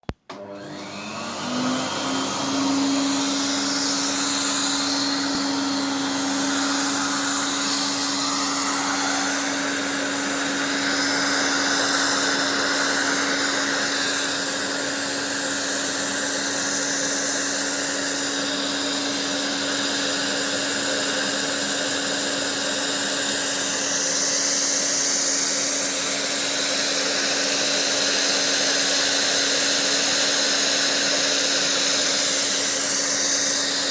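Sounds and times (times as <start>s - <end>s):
vacuum cleaner motor humming: 0.0s - 33.9s.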